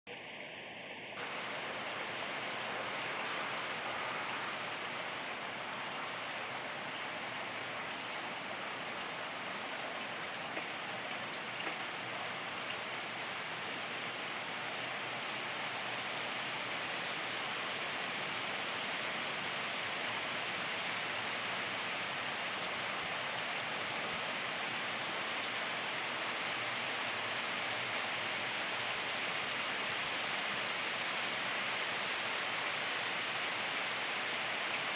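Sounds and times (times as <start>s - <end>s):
steady rainfall: 0.2s - 34.9s.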